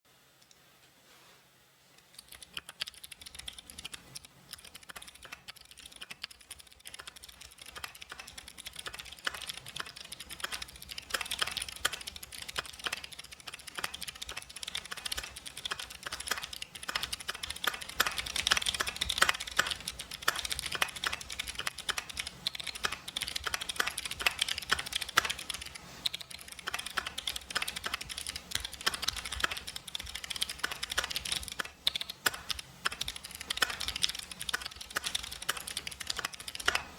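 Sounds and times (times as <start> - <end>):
mechanical keyboard typing: 2.2 - 36.9.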